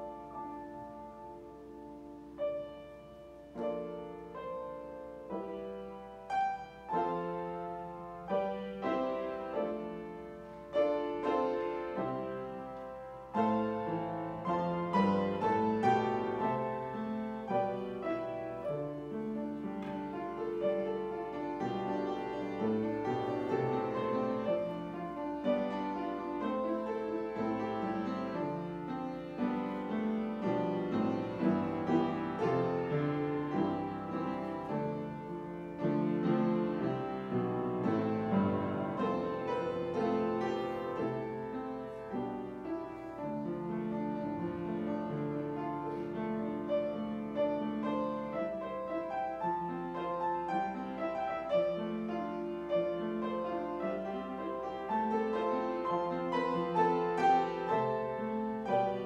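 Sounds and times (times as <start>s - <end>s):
upright piano playing: 0.0s - 59.0s.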